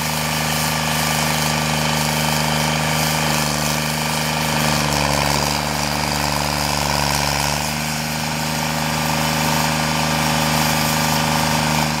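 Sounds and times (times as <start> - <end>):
cutter wheel grinding stump: 0.0 - 12.0
stump grinder engine under load: 0.0 - 12.0.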